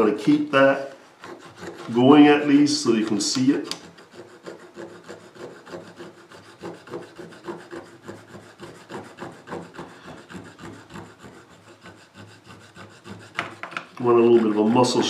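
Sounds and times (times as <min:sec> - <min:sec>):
file scraping on metal: 0:00.0 - 0:15.0.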